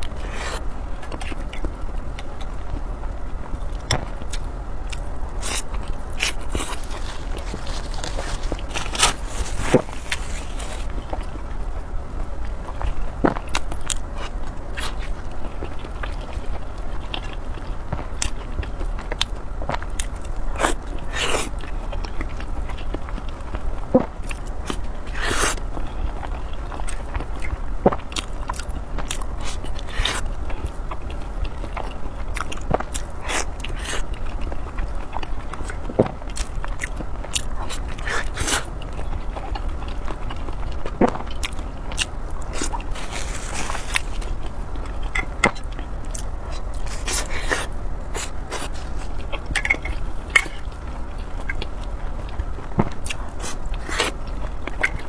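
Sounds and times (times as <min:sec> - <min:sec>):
person chewing food: 0:00.0 - 0:02.8, 0:03.7 - 0:11.6, 0:12.4 - 0:55.0
small food crunches: 0:03.8 - 0:11.4, 0:12.7 - 0:55.0.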